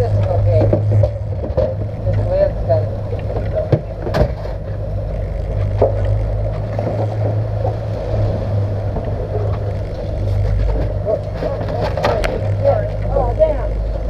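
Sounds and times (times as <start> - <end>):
outboard motors droning: 0.0 - 14.0
water wash: 0.0 - 14.0.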